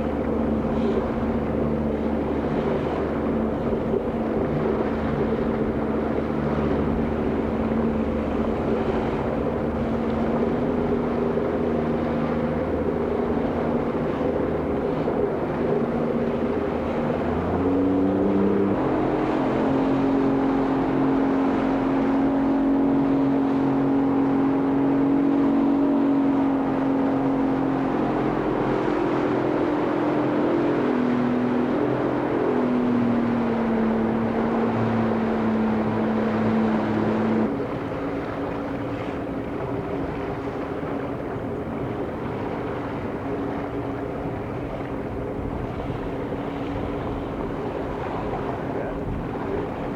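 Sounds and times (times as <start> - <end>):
motorboat engine running: 0.0 - 49.9.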